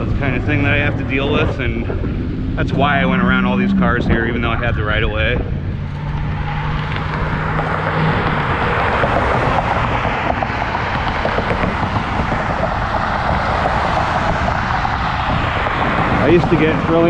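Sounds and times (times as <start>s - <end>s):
car engine hum: 0.0s - 17.0s
road traffic noise: 0.0s - 17.0s
wind rushing over microphone: 0.0s - 17.0s.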